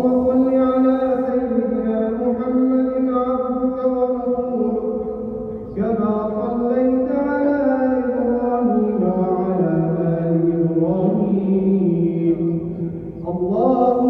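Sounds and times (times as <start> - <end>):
person chanting melodically: 0.0 - 14.0.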